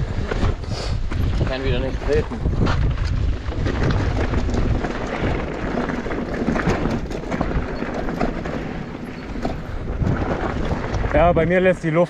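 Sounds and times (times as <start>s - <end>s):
bike rattles and knocks: 0.0s - 11.7s
bike tyre noise: 0.0s - 12.0s
wind buffeting microphone: 0.0s - 12.0s.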